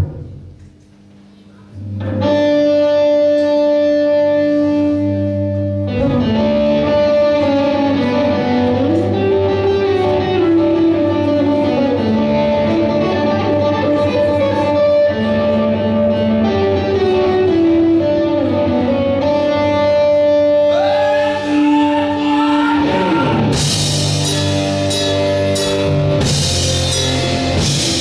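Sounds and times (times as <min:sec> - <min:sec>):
electric guitar notes ringing: 0:00.0 - 0:28.0
live rock band playing: 0:02.0 - 0:28.0.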